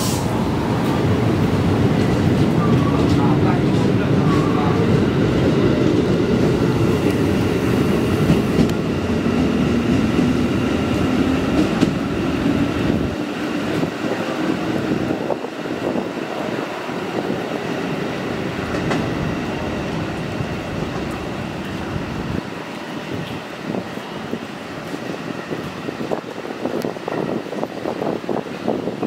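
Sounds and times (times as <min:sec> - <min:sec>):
electric train rumbling past: 0:00.0 - 0:29.0
train drawing slowly along platform: 0:00.0 - 0:29.0.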